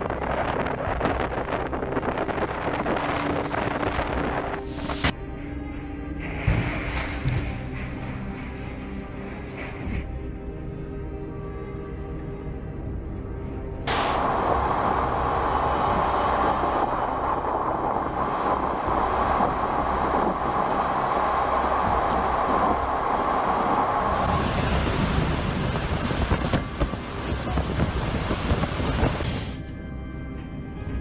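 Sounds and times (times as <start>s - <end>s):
hurricane wind with driving rain: 0.0s - 31.0s.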